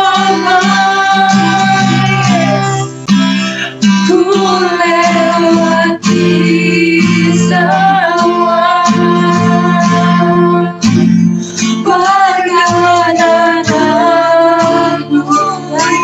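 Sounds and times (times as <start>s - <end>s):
woman and girl singing: 0.0s - 3.0s, 4.0s - 11.0s, 11.7s - 16.0s
acoustic guitar: 0.0s - 16.0s.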